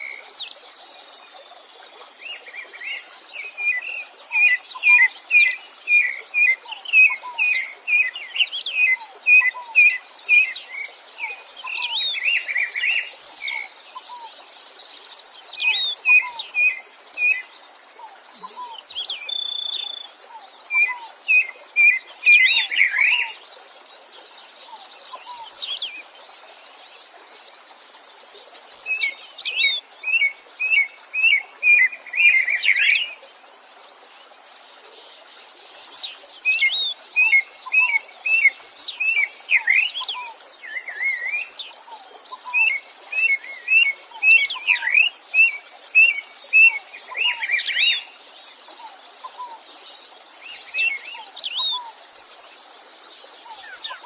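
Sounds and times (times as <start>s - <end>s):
faint stream hiss: 0.0s - 54.0s
songbirds chirping: 0.0s - 54.0s.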